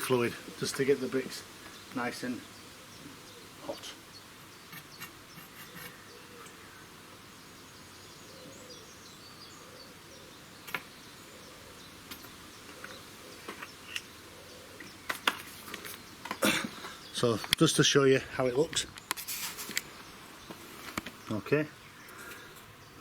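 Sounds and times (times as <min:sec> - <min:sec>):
faint outdoor background noise: 0:00.0 - 0:23.0.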